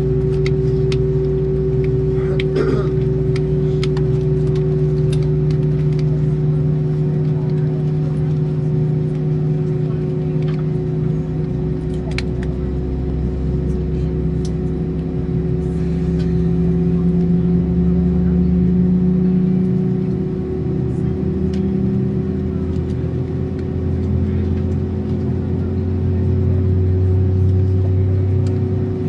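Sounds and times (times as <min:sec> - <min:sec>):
aircraft cabin droning hum: 0:00.0 - 0:29.0.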